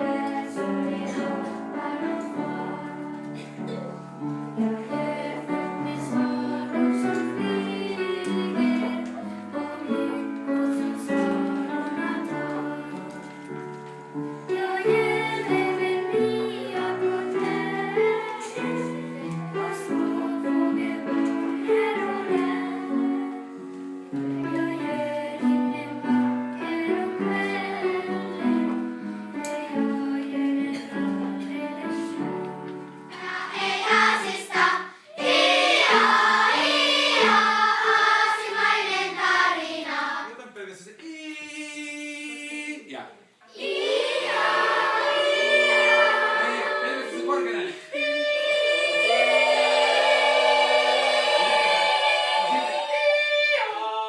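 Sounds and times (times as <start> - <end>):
children's choir singing: 0.0 - 40.3, 43.5 - 54.0.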